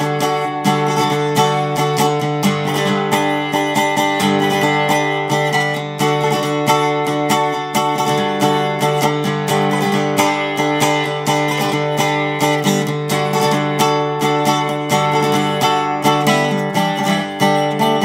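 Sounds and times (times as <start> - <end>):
resonator guitar picking: 0.0 - 18.0.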